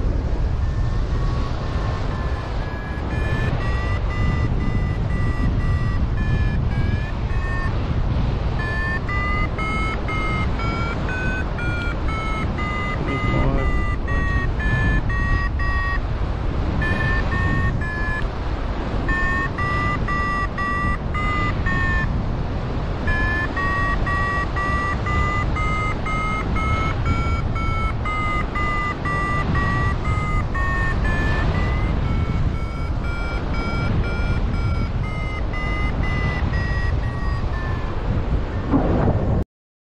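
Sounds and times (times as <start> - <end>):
wind on microphone: 0.0 - 39.4
variometer short beeps: 0.6 - 16.1, 16.7 - 22.2, 23.0 - 38.7.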